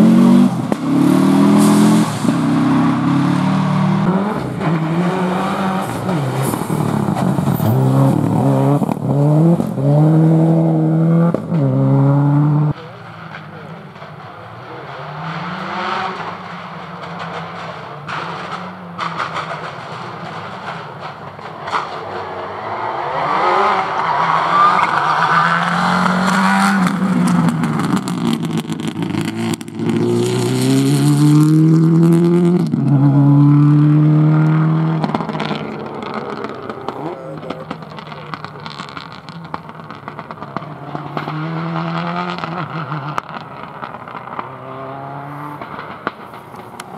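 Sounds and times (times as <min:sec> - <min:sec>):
rally car engine accelerating: 0:00.0 - 0:46.9.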